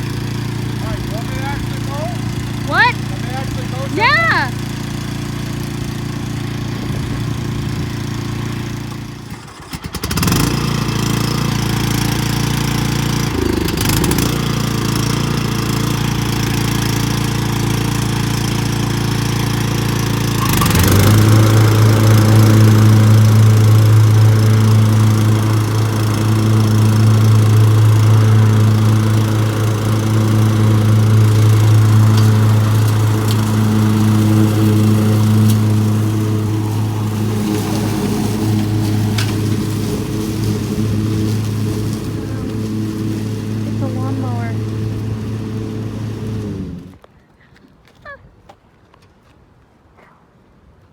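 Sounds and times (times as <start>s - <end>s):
lawn mower engine running: 0.0s - 47.0s.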